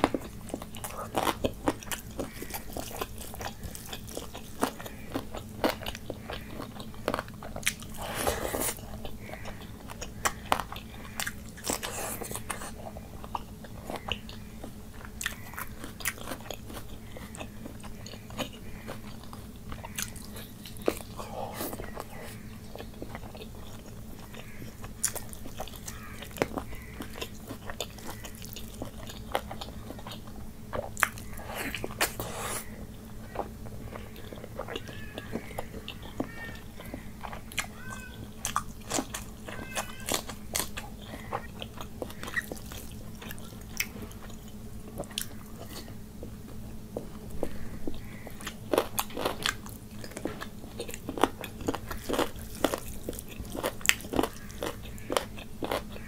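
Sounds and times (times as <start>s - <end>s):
steady low hum: 0.0s - 56.0s
wet chewing and lip smacks: 0.0s - 56.0s.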